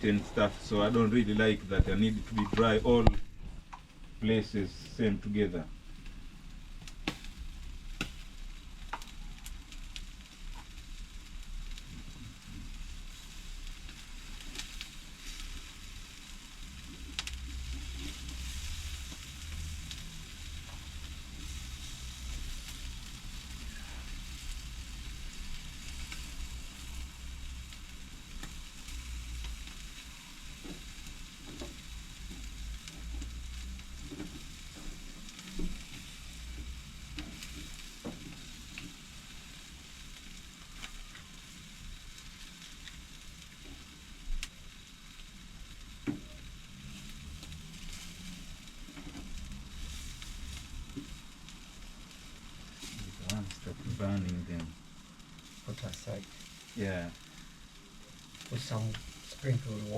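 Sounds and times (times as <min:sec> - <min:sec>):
chicken sizzling on a grill: 0:00.0 - 0:59.9.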